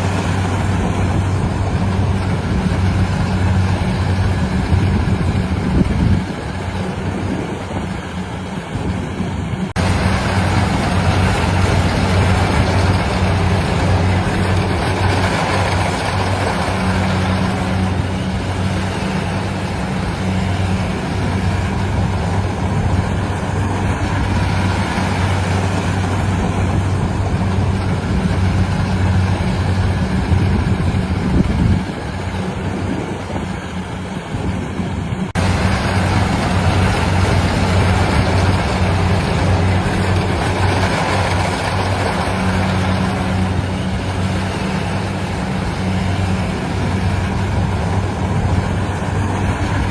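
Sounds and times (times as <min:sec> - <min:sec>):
harvester engine humming: 0:00.0 - 0:49.9.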